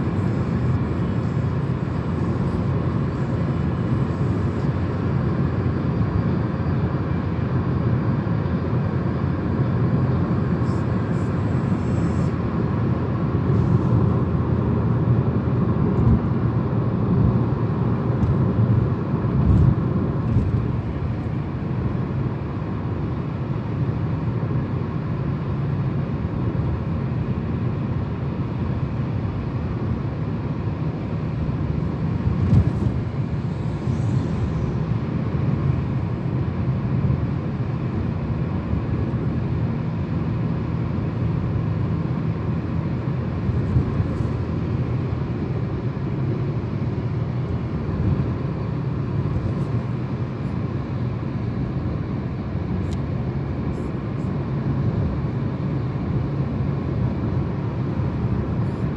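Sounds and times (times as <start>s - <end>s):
car engine and tyre rumble: 0.0s - 58.9s.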